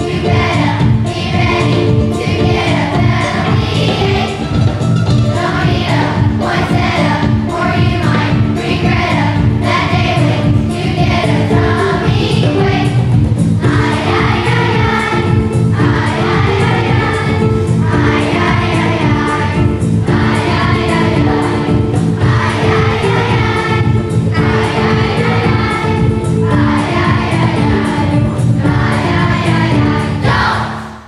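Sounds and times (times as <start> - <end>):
children's choir singing: 0.0 - 31.0
instrumental accompaniment: 0.0 - 31.0.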